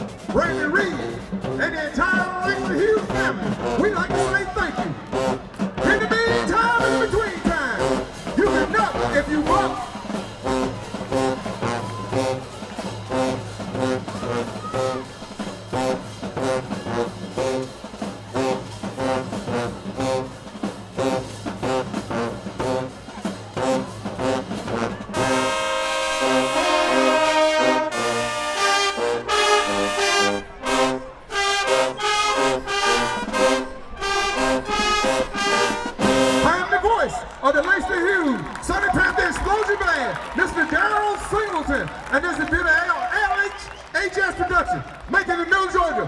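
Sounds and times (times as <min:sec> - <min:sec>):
brass section chords: 0:00.0 - 0:37.8
marching band playing: 0:00.0 - 0:46.0.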